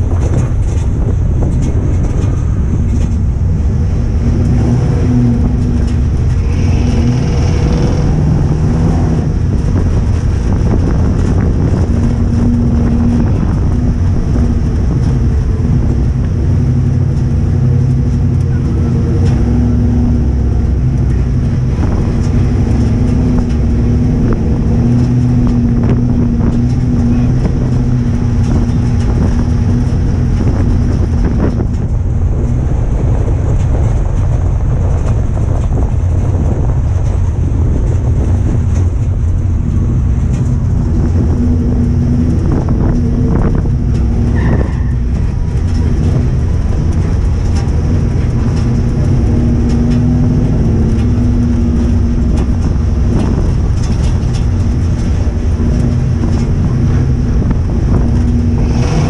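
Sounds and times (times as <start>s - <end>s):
chassis tyre and wind noise: 0.0s - 59.0s
race car engine running hard: 0.0s - 59.0s.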